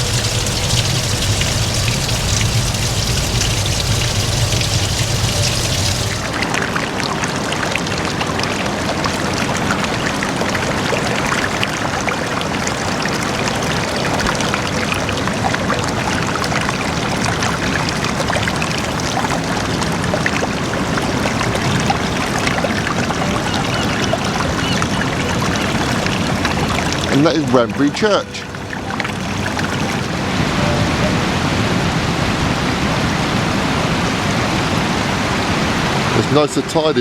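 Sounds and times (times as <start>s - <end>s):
stream splashing: 0.0s - 37.0s.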